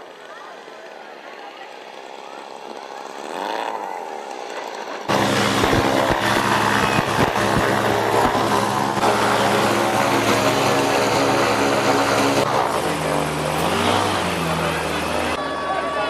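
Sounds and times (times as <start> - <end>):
model plane engine and propeller: 0.0 - 16.0.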